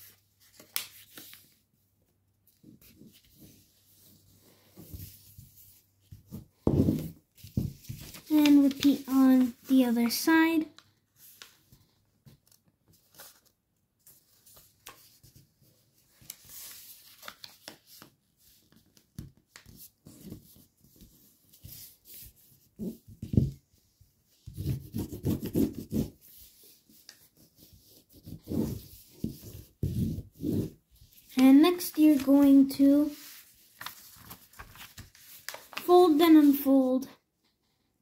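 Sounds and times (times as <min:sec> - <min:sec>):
paper rubbing and rustling: 0:02.5 - 0:10.3, 0:11.2 - 0:23.5, 0:24.3 - 0:36.6.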